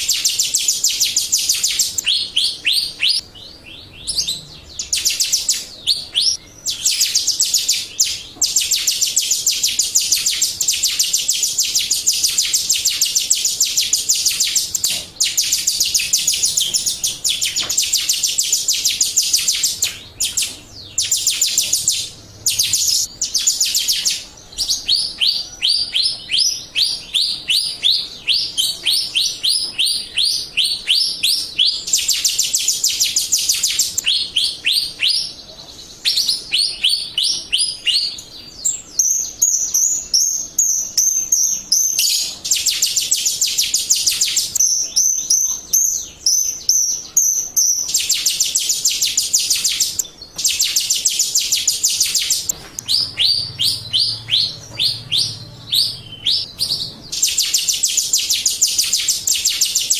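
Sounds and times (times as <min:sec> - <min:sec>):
starling chirping song: 0:00.0 - 0:59.9.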